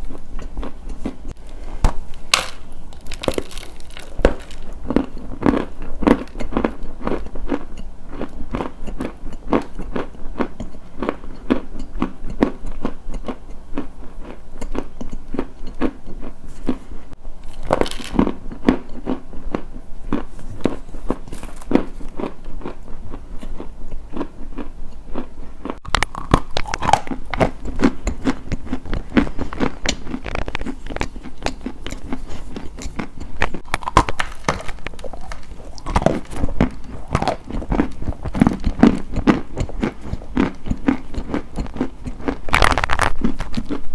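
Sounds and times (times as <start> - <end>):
crunchy food chewing: 0.0 - 1.6, 2.3 - 43.9.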